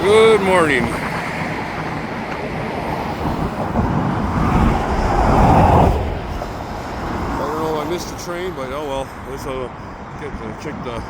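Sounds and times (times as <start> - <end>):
passing cars and trucks: 0.0 - 11.0.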